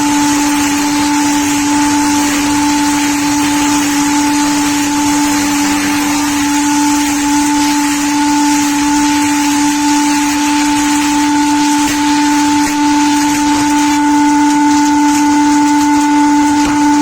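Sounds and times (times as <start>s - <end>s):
log sawing machine whining: 0.0s - 17.0s.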